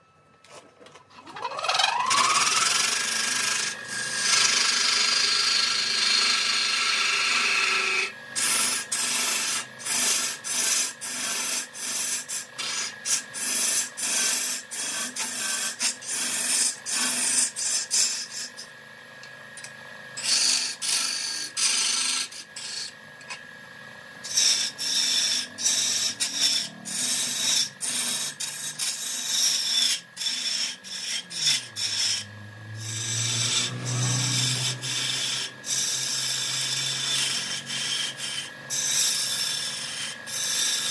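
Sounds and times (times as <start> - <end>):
lathe tool scraping spinning wood: 0.5 - 18.6, 20.2 - 23.4, 24.2 - 40.9.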